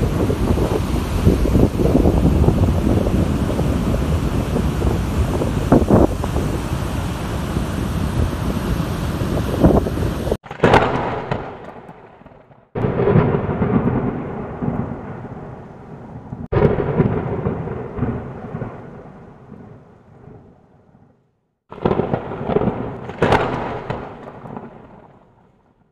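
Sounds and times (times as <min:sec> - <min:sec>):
deep thunder-like rumbles: 0:00.0 - 0:21.1, 0:21.7 - 0:25.5.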